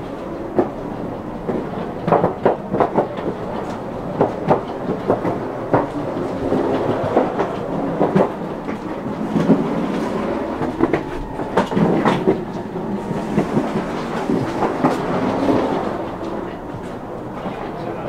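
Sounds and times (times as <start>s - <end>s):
train rumbling: 0.0s - 18.0s
wheels clacking over rail joints: 0.0s - 18.0s.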